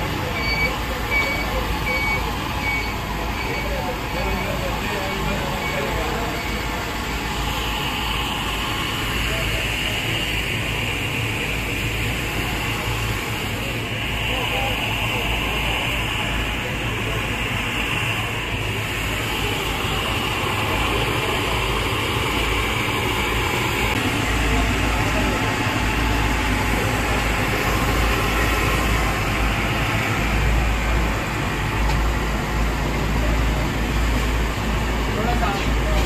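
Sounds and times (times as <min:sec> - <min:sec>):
street background rumble and hiss: 0:00.0 - 0:36.0.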